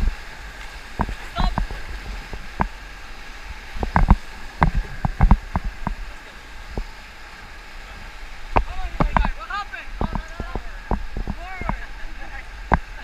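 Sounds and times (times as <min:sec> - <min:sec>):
paddles splashing and knocking: 0:00.0 - 0:13.0
water slapping boat: 0:00.0 - 0:13.0
whitewater rapids rushing: 0:00.0 - 0:13.0.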